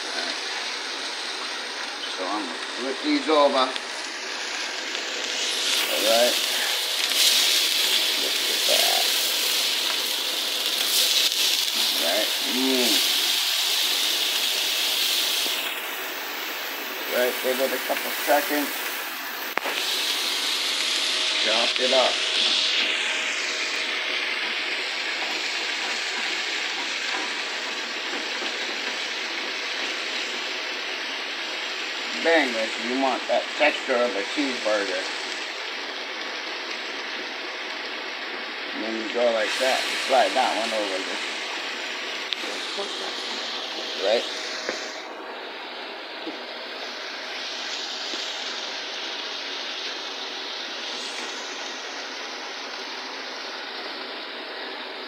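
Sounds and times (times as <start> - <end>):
meat sizzling in frying pan: 0.0 - 55.0.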